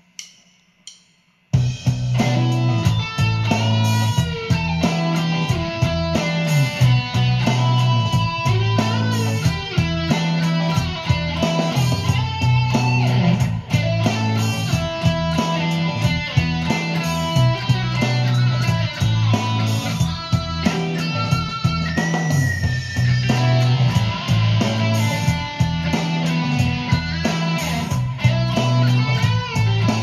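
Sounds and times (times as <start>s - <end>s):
drum beat: 0.0s - 30.0s
bass line: 1.6s - 30.0s
electric guitar lead: 1.6s - 30.0s.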